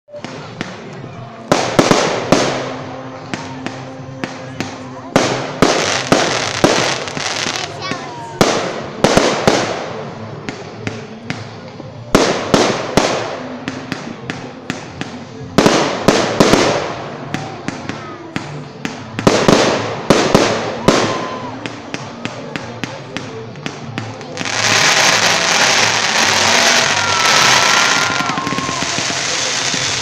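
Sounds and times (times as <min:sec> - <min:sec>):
firework crackling tail: 0:00.1 - 0:30.0.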